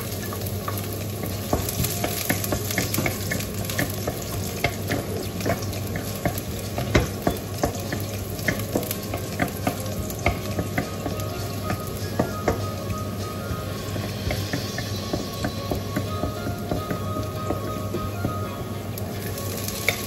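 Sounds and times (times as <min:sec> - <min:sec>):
garlic sizzling in hot oil: 0:00.0 - 0:20.0
wooden spatula knocking on pan: 0:00.7 - 0:13.0, 0:13.9 - 0:18.5.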